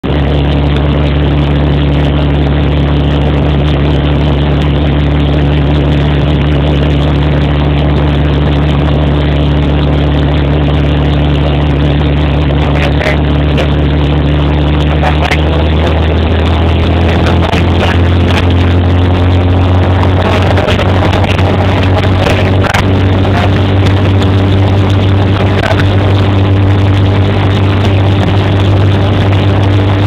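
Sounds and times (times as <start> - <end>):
helicopter engine and rotor droning: 0.5 - 30.0.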